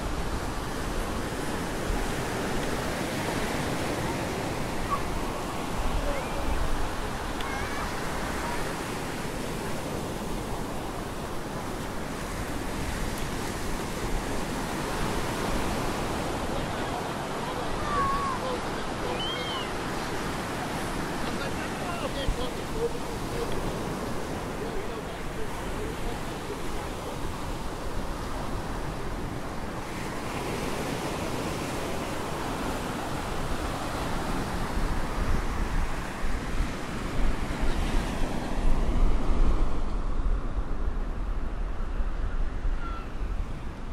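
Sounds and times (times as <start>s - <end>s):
wind on microphone: 0.0s - 21.4s, 22.1s - 43.9s
waves breaking on beach: 0.0s - 43.9s.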